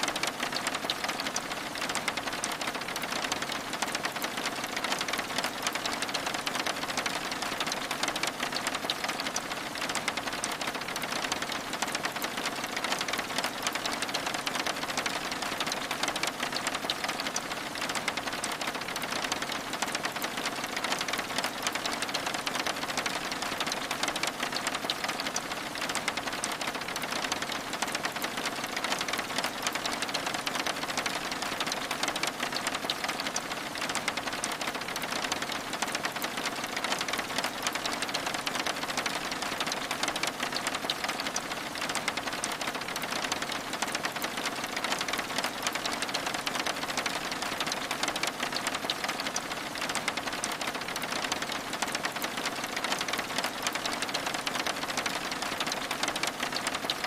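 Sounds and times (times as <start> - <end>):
rain pattering on window glass: 0.0 - 57.0.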